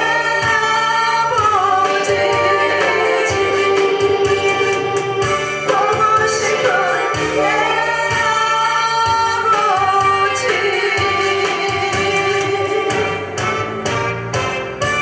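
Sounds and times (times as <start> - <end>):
backing band: 0.0 - 15.0
singer holding long notes: 0.0 - 15.0.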